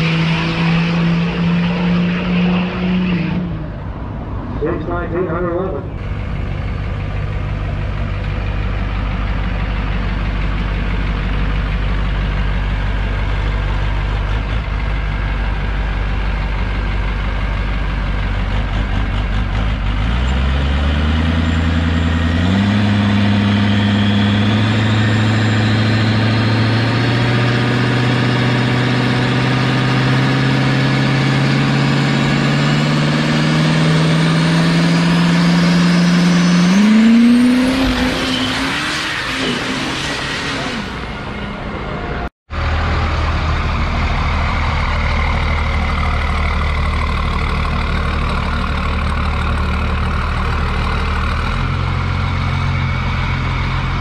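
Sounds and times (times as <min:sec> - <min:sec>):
diesel pickup engine revving: 0:00.0 - 0:54.0.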